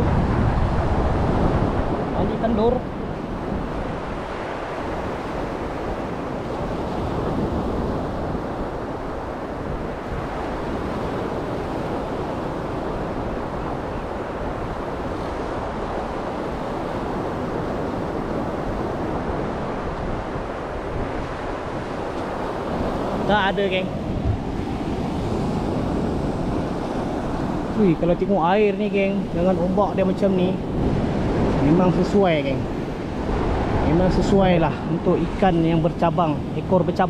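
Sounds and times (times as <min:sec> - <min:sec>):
surf breaking on a beach: 0:00.0 - 0:37.0
wind buffeting the microphone: 0:00.0 - 0:37.0.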